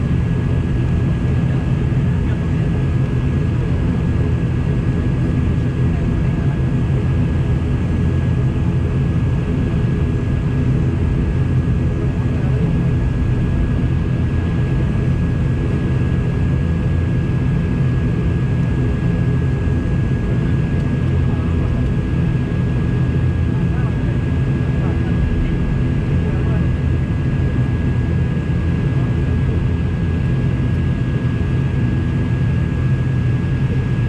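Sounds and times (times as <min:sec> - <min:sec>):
airliner engines droning: 0:00.0 - 0:34.0.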